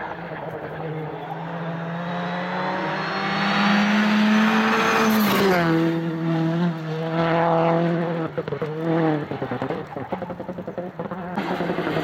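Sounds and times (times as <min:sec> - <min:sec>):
rally car engine passing: 0:00.0 - 0:12.0.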